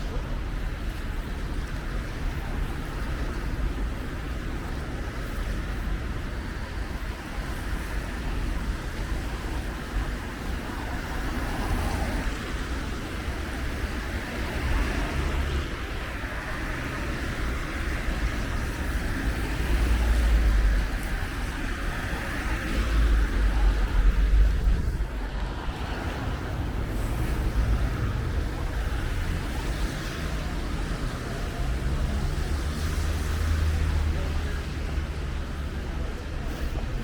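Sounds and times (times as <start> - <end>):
low traffic rumble: 0.0 - 37.0
tyres hissing on wet road: 0.0 - 37.0.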